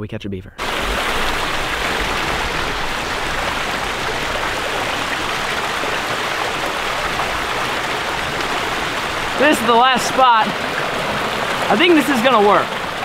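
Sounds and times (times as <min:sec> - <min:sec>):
water flowing hard: 0:00.6 - 0:13.0.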